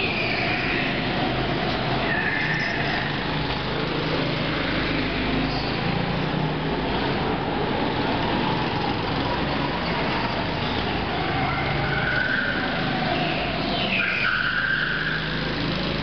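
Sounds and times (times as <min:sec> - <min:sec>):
go-kart engines buzzing: 0:00.0 - 0:16.0.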